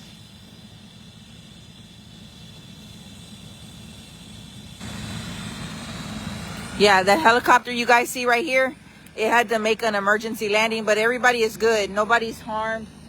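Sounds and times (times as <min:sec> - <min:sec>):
faint high whine: 0:00.0 - 0:13.0
low engine rumble: 0:00.0 - 0:13.0.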